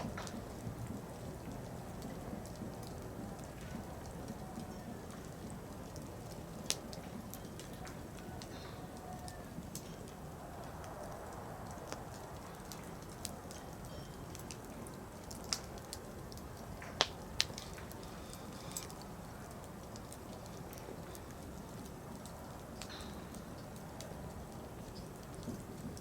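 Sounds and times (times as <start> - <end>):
campfire hissing: 0.0 - 26.0
fire crackles and pops: 0.0 - 26.0.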